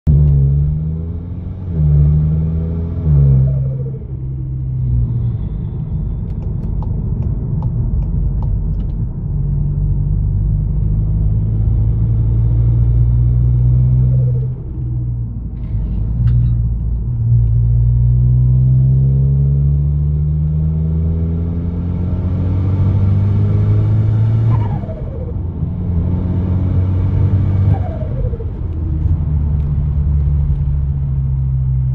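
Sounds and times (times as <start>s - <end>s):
car engine revving: 0.1s - 31.9s.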